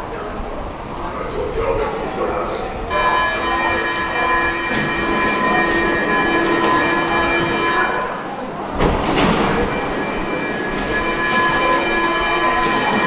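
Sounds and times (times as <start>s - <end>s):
train high-pitched whine: 2.2s - 13.0s.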